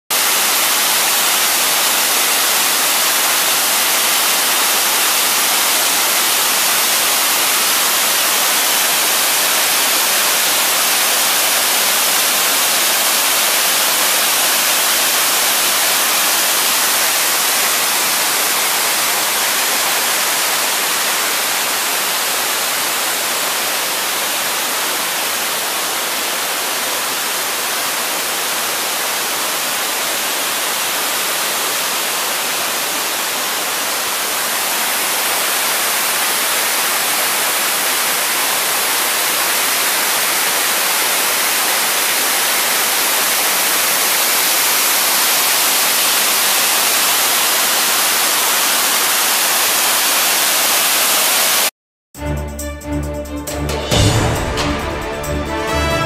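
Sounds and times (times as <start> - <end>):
waterfall rushing over rock: 0.1 - 51.7.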